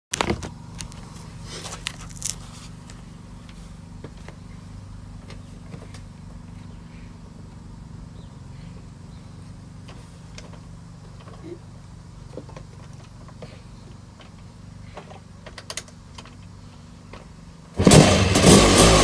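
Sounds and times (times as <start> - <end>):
two-stroke engine starting and running: 0.1 - 19.0.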